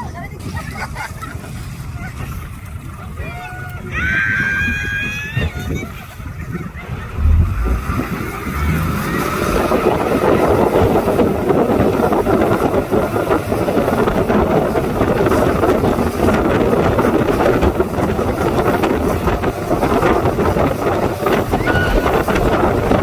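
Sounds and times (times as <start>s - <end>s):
motorboat moving over water: 0.0s - 23.0s
wind noise on microphone: 0.0s - 23.0s.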